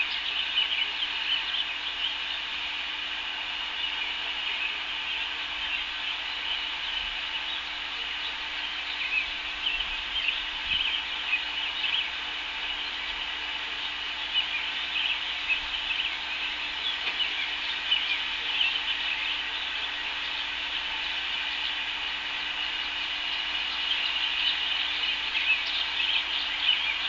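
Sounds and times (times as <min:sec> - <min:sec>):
birds chirping: 0:00.0 - 0:27.0
steady high hiss: 0:00.0 - 0:27.0.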